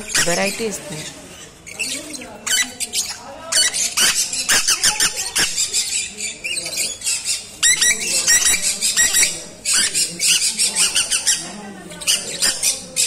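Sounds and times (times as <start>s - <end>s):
parrots chirping and squawking: 0.0s - 13.0s.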